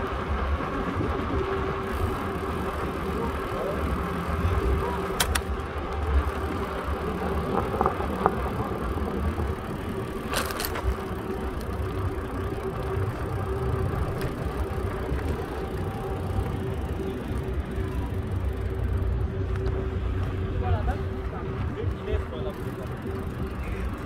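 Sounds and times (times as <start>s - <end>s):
bicycle tyres rolling: 0.0s - 24.0s
faint steady hum: 0.0s - 24.0s
wind buffeting microphone: 0.0s - 24.0s.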